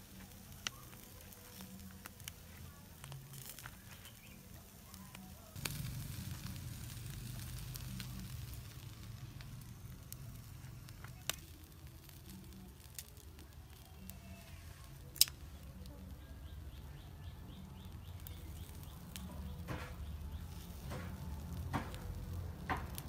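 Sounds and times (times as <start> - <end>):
faint crackling: 0.0 - 23.0
meat grilling over charcoal: 0.0 - 23.0.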